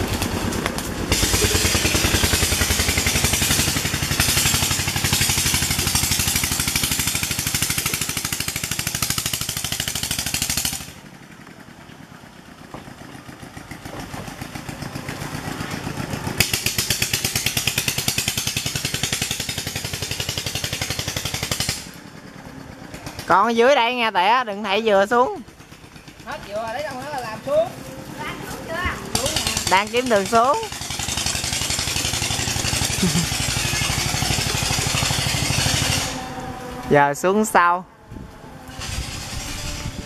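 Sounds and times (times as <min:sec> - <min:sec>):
boat engine puttering: 0:00.0 - 0:37.7.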